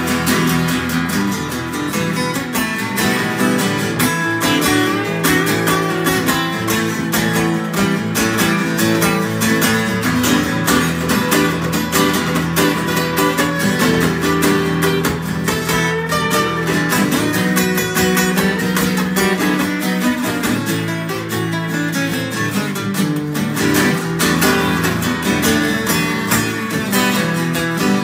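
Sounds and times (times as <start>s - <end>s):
acoustic guitars strummed: 0.0s - 28.0s.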